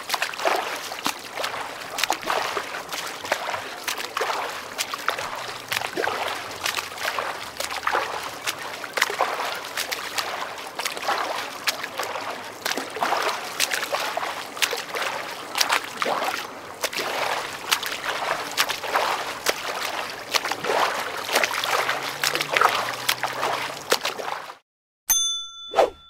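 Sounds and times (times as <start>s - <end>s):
swimming stroke splashes: 0.0s - 24.6s.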